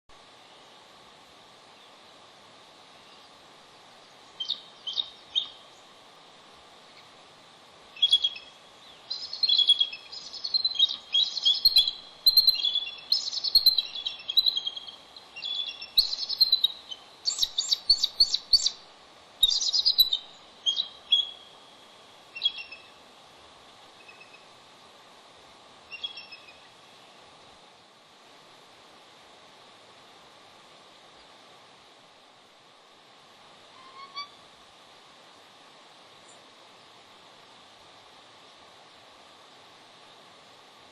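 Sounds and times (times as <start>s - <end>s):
background hiss: 0.1s - 40.9s.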